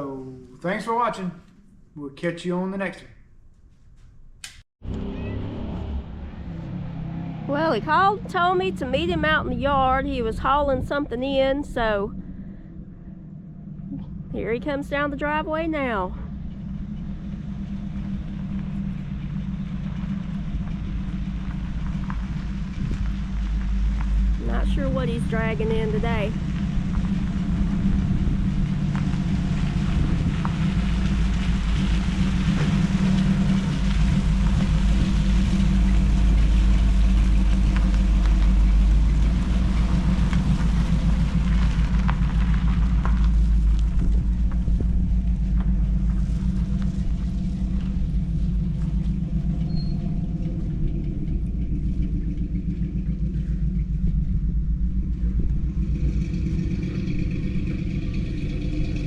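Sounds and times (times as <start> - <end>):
vehicle engine running: 4.8 - 59.0.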